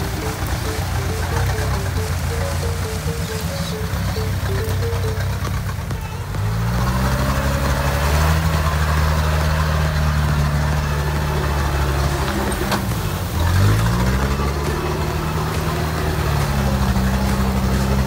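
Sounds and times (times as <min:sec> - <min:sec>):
off-road vehicle engine under load: 0:00.0 - 0:18.0.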